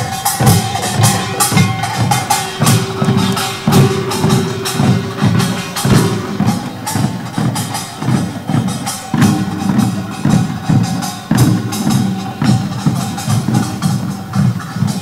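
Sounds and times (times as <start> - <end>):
percussion band drumming: 0.0 - 15.0.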